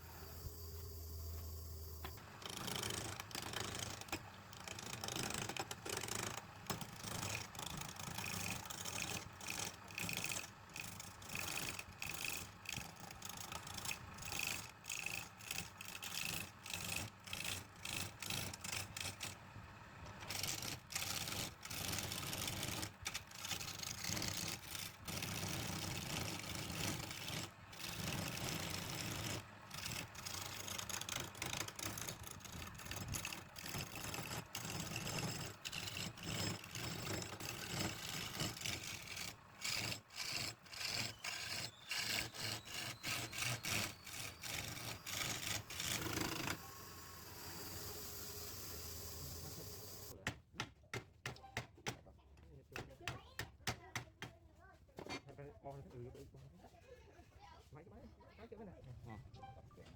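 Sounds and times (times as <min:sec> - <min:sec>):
wood lathe tool scraping: 0:00.0 - 0:50.2.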